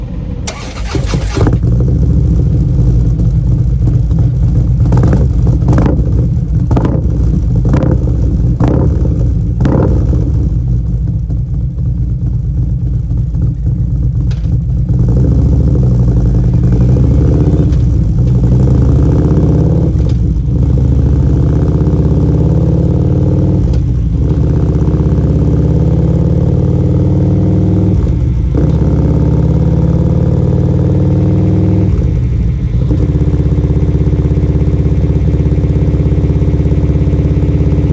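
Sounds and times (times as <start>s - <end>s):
motorcycle engine idling and blipping: 0.0s - 37.9s.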